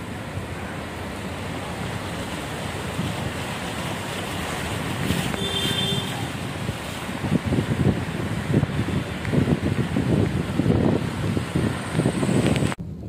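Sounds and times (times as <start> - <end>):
heavy rain: 0.0 - 13.0
tyres running through floodwater: 0.0 - 13.0
wind buffeting the microphone: 0.0 - 13.0.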